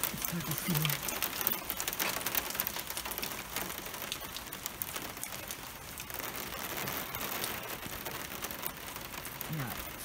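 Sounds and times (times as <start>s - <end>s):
ice pellets and rain on car hood: 0.0s - 10.0s.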